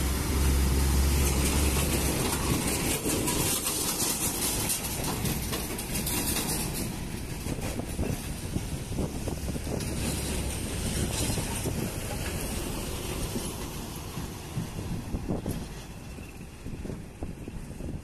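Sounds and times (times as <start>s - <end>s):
truck engine drone: 0.0s - 17.9s
trailer wheels rumbling and clattering: 0.0s - 18.0s.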